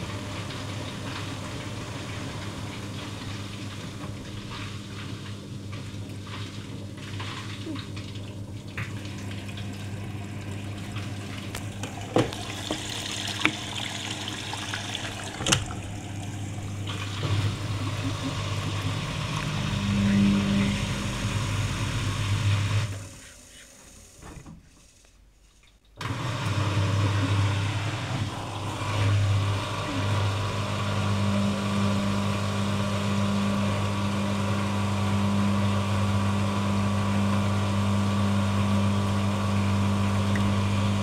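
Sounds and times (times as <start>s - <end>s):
washing machine motor hum: 0.0s - 41.0s.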